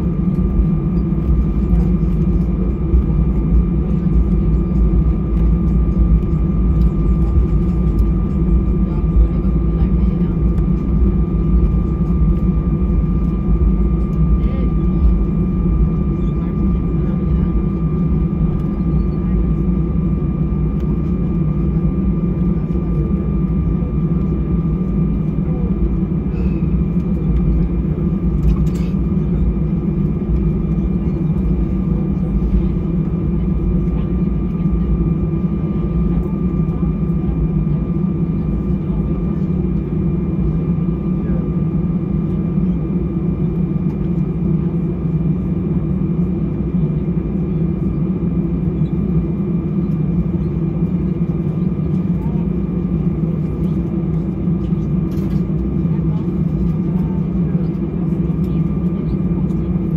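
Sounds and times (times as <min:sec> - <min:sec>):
low cabin hum: 0:00.0 - 0:59.9.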